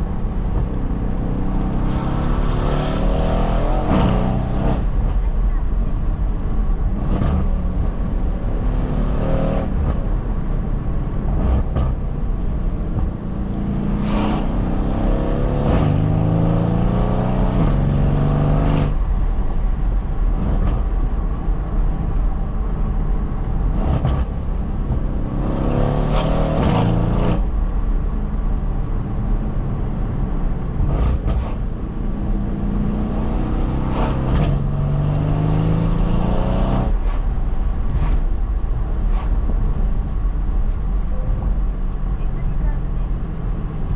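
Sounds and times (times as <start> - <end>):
car engine accelerating through gears: 0.0 - 5.5, 6.5 - 21.3, 22.5 - 43.9
road and wind noise: 0.0 - 43.9.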